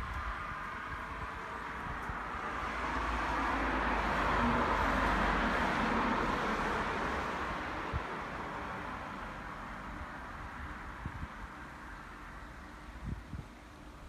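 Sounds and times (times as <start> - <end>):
car passing tyre noise: 0.0 - 13.2.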